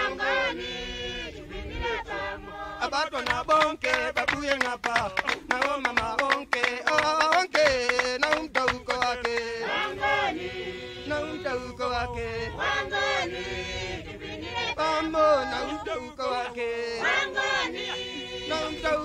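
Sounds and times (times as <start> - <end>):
group chanting: 0.0 - 6.8, 9.0 - 19.0.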